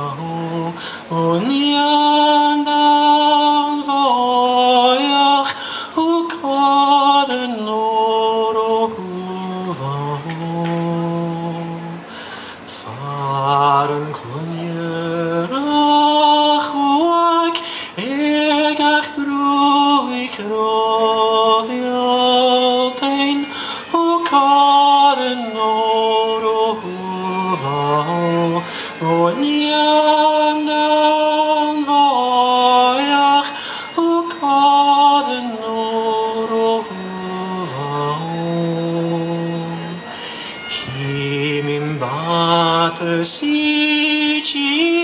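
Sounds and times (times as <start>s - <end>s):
man singing unaccompanied: 0.0s - 45.0s.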